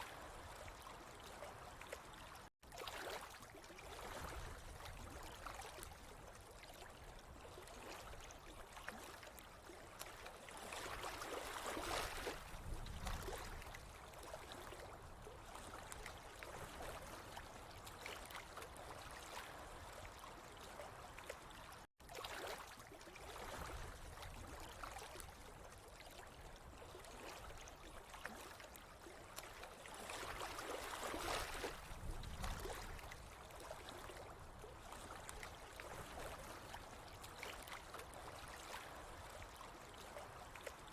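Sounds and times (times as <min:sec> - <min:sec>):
water trickling and gurgling: 0:00.0 - 0:40.9.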